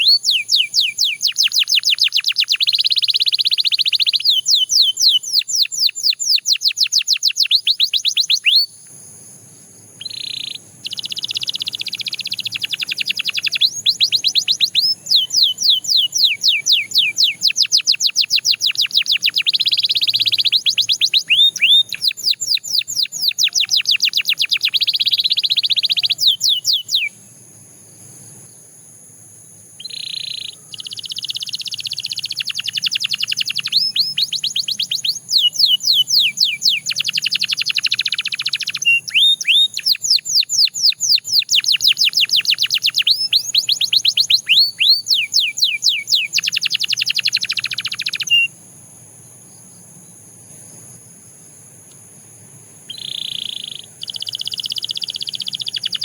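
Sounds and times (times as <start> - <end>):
canary singing trills: 0.0 - 8.9, 9.6 - 27.2, 29.8 - 48.6, 52.8 - 56.0.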